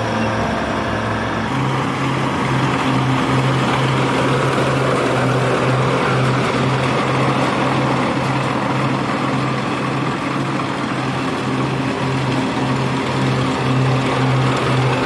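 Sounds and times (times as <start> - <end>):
harvesting machine engine running: 0.0 - 15.0.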